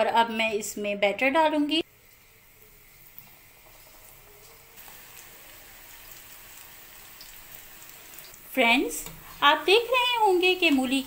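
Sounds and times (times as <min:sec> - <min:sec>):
batter sizzling in hot oil: 0:01.8 - 0:11.0.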